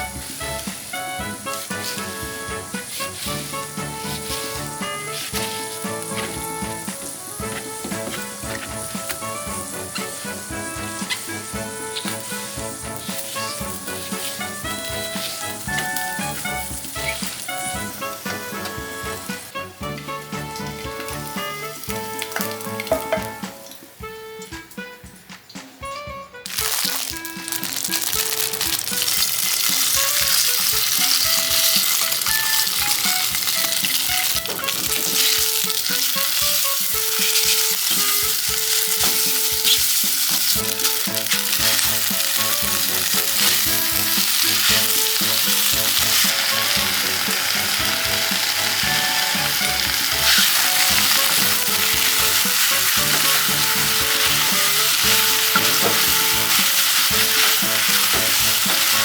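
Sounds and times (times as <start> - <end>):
food sizzling in a frying pan: 0.0 - 24.0, 26.5 - 59.0
soft background music: 0.0 - 59.0.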